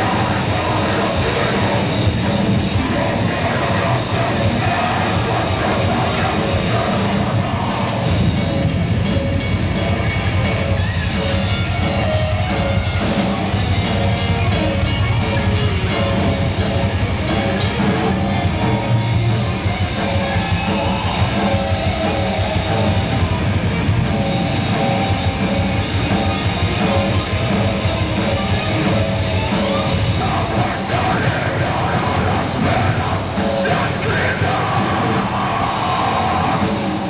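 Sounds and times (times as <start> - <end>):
drum kit: 0.0 - 37.0
electric guitars: 0.0 - 37.0.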